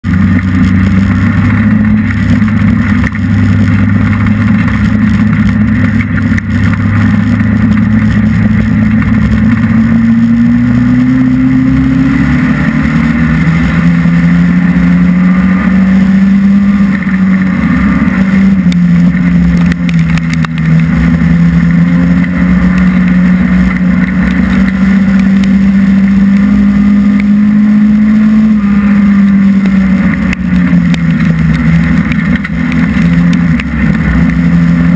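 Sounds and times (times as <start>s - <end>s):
race car engine running: 0.0s - 34.9s.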